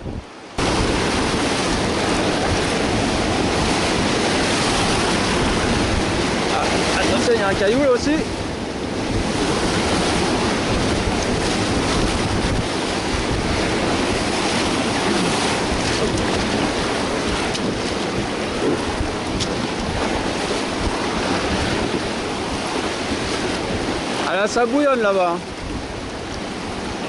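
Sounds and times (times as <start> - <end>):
river rapids roaring: 0.3 - 27.0.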